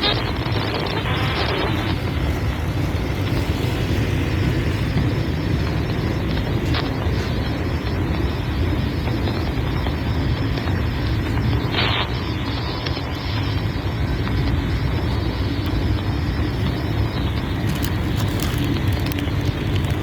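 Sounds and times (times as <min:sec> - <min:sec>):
bus engine and road rumble: 0:00.0 - 0:10.7, 0:14.3 - 0:20.0.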